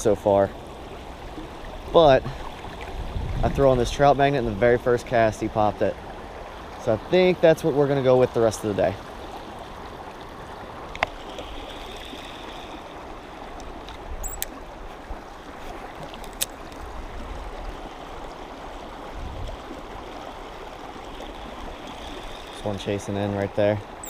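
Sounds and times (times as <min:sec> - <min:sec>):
creek water trickling over stones: 0:00.0 - 0:24.0.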